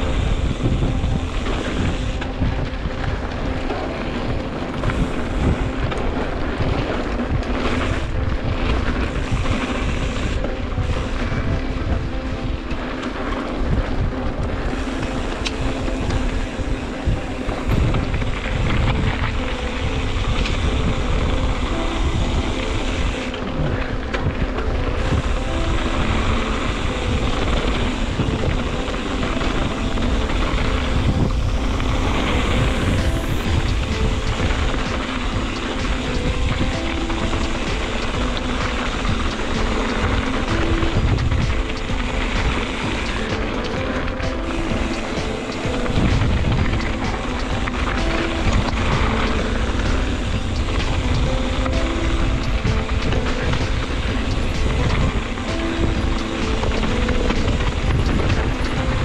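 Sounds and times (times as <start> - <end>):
bike rattles: 0.0 - 59.0
bike tyre and trail rumble: 0.0 - 59.0
wind rushing over microphone: 0.0 - 59.0.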